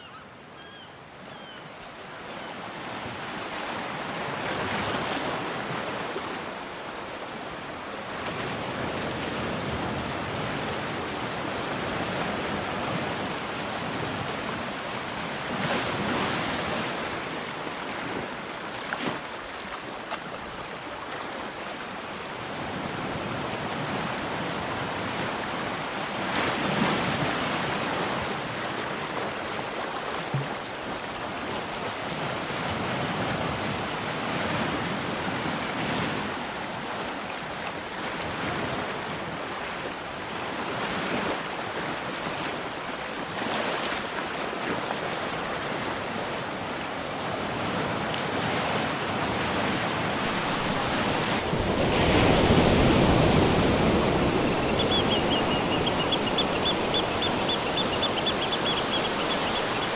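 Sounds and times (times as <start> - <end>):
ocean surf washing: 1.8 - 59.9.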